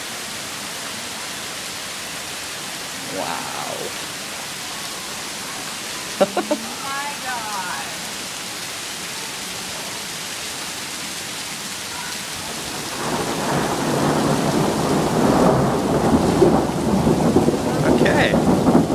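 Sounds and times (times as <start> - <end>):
hail and rain falling: 0.2 - 18.9.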